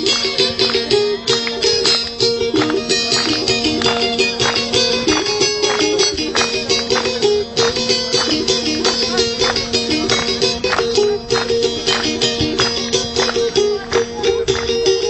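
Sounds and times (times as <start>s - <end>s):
plucked string instrument melody: 0.0s - 15.0s.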